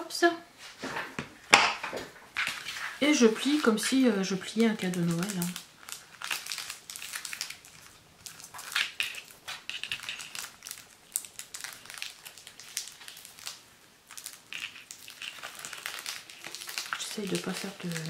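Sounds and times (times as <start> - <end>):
cellophane crinkling: 2.3 - 18.0.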